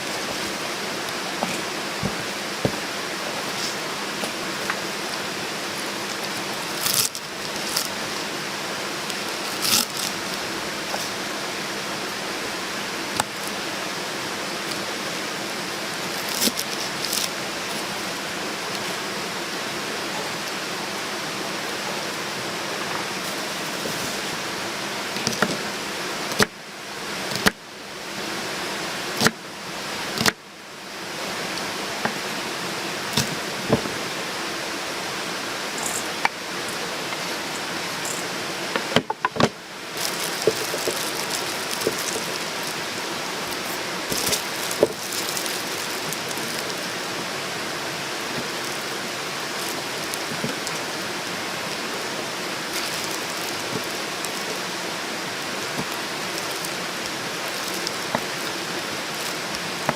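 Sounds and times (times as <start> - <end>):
rushing water hiss: 0.0 - 59.9.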